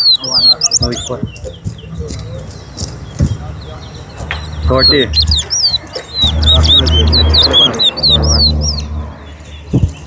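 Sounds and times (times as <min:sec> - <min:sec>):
finches singing whistled notes: 0:00.0 - 0:10.0.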